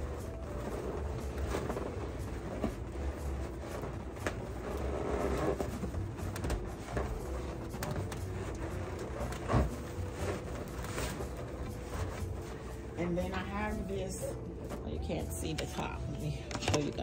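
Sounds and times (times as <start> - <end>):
balloons rubbing and squeaking: 0.0 - 17.0.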